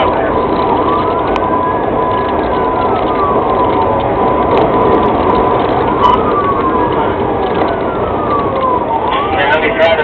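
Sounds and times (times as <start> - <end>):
police sirens wailing: 0.0 - 10.0
vehicle road and engine noise: 0.0 - 10.0.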